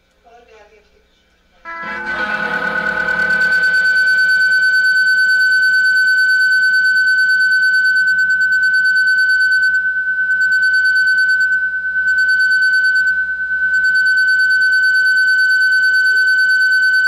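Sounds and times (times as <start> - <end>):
high steady drone tone: 1.7 - 17.0.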